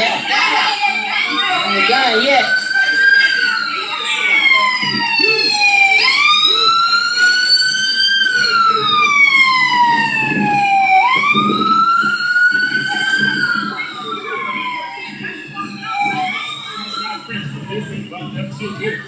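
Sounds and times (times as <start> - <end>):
emergency siren wailing: 0.0 - 19.0.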